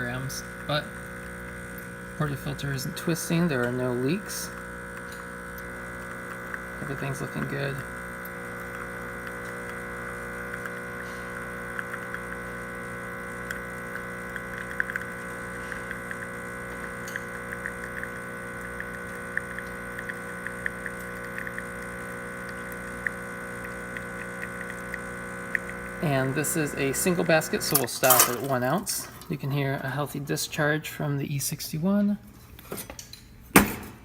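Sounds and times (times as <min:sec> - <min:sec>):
espresso machine pump running: 0:00.0 - 0:31.7.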